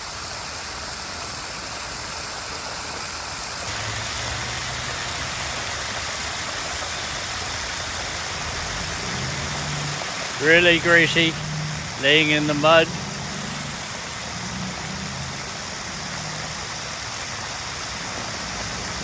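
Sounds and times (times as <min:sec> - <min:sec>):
low engine-like hum: 0:03.7 - 0:19.0.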